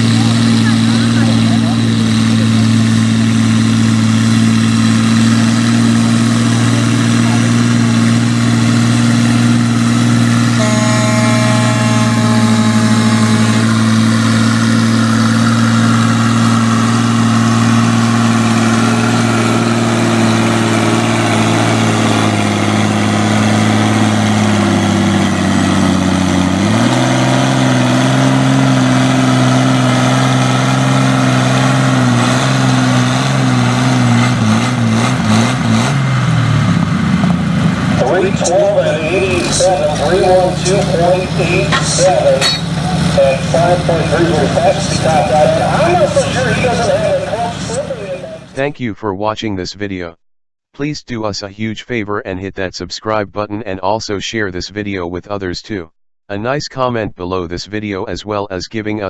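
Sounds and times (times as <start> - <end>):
tractor engine running hard: 0.0 - 48.6.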